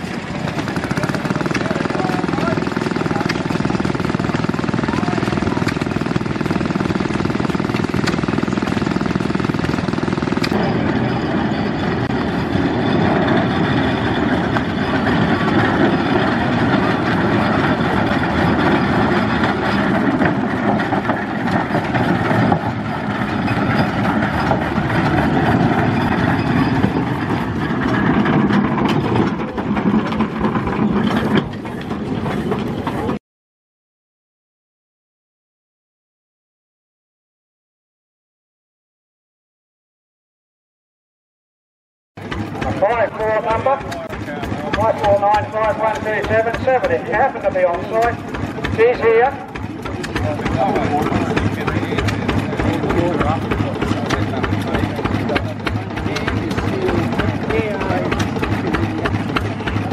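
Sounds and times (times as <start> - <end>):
steam roller engine running: 0.0 - 33.2, 42.2 - 59.9.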